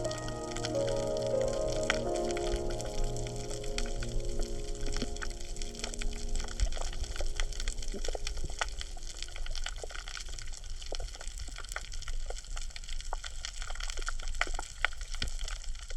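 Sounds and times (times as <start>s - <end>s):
low rumble of moving water: 0.0s - 15.9s
coral reef crackling clicks and pops: 1.6s - 15.9s.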